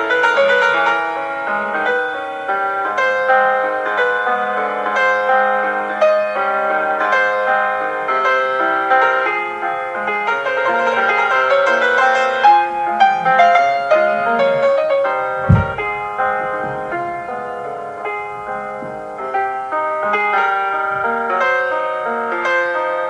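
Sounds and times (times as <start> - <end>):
classical piano music: 0.0 - 23.0.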